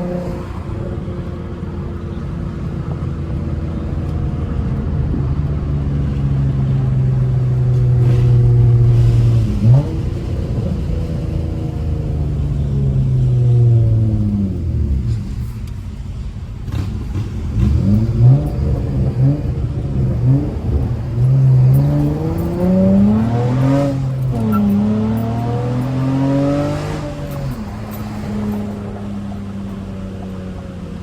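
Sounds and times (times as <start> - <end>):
car exhaust accelerating through gears: 0.0 - 31.0.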